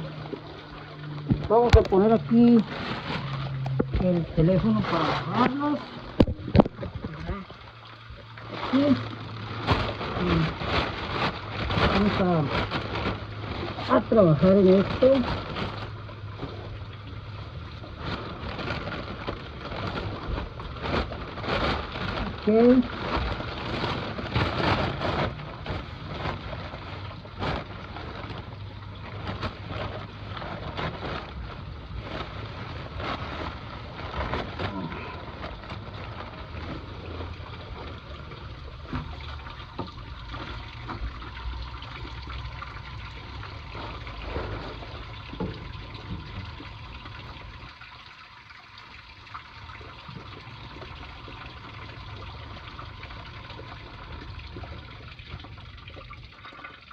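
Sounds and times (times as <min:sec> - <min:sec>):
water trickling from pipe: 0:00.0 - 0:56.9.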